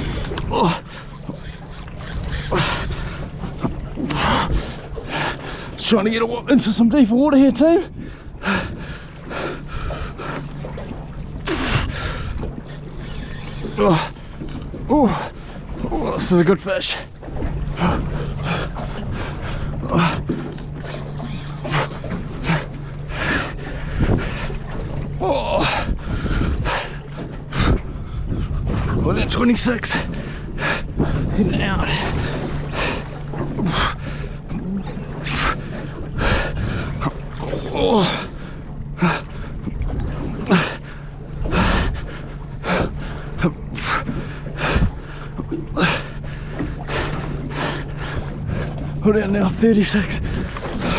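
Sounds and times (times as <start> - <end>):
boat engine idling: 0.0 - 50.9
steady low hum: 0.0 - 50.9.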